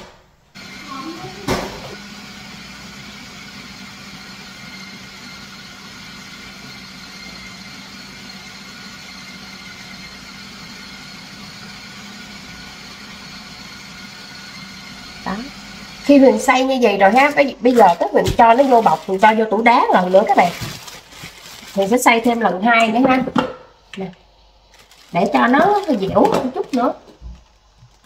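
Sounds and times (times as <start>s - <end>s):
food processor humming: 0.5s - 28.0s.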